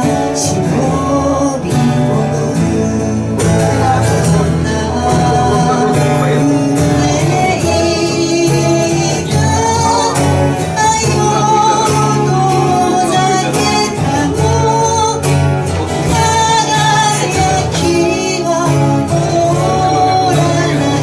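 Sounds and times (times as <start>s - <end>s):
acoustic guitar: 0.0s - 21.0s
keyboard: 0.0s - 21.0s
woman singing: 0.0s - 21.0s.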